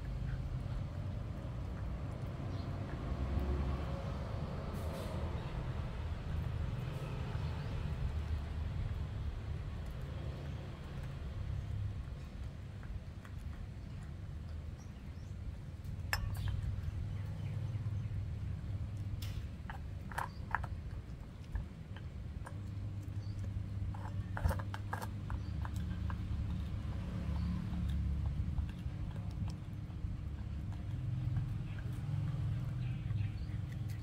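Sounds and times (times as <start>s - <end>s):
puppy crunching food: 6.0s - 34.0s.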